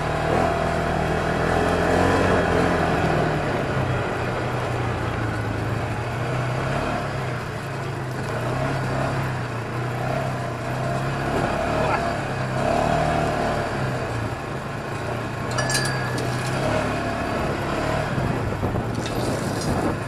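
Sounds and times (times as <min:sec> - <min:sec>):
buggy engine running: 0:00.0 - 0:20.0.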